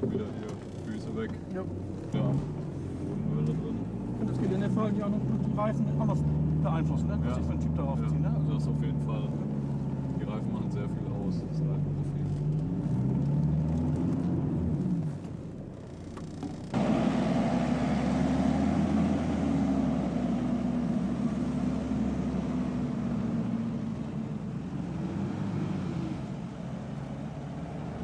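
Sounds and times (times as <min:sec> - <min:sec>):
car engine drone: 0:00.0 - 0:28.0.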